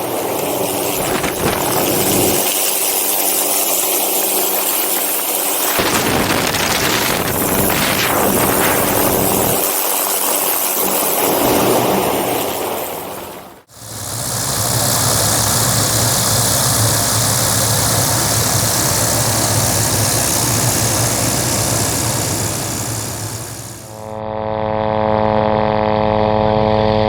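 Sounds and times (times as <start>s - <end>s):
helicopter engine and rotor: 0.0s - 11.4s, 12.3s - 24.1s.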